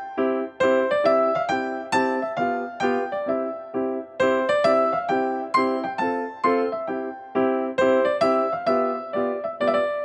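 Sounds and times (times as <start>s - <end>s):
electric piano tune: 0.0s - 10.0s.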